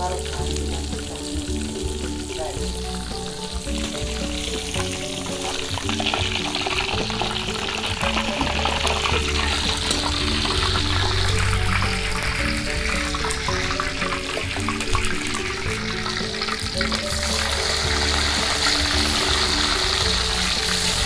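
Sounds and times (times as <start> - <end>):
background music: 0.0 - 21.0
oil sizzling in a wok: 0.0 - 21.0.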